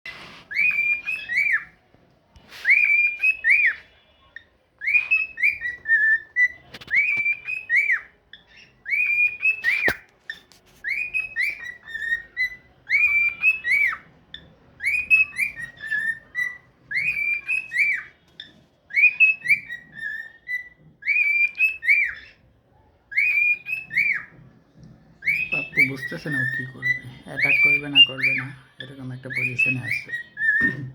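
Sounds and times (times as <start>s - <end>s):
cockatiel whistling a tune: 0.1s - 1.8s, 2.4s - 24.5s, 25.2s - 30.9s.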